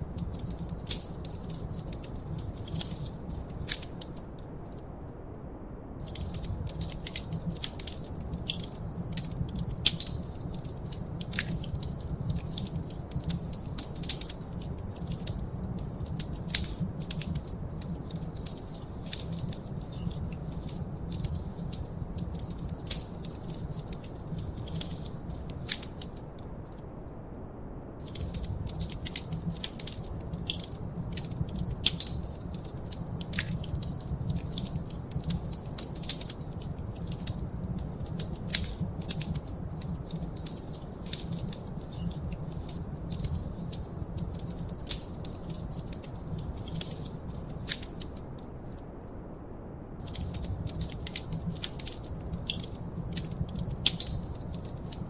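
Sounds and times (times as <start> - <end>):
wood fire crackling: 0.0 - 5.2, 6.0 - 27.0, 28.0 - 49.3, 50.0 - 55.0
low fire rumble: 0.0 - 55.0.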